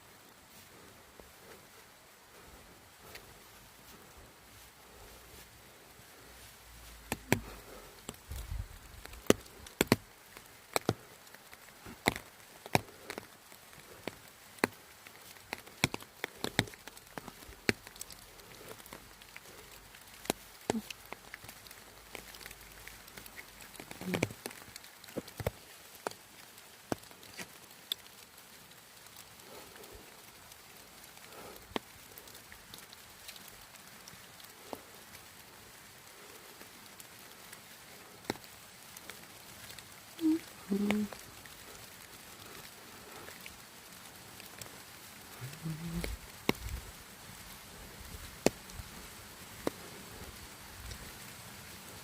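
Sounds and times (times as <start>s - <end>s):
faint hiss of rain: 0.0s - 52.0s
raindrops tapping on umbrella: 2.3s - 52.0s.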